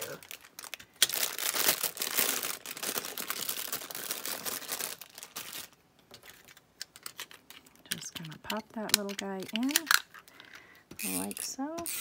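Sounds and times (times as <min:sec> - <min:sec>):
wrapping crinkling: 0:00.0 - 0:12.0.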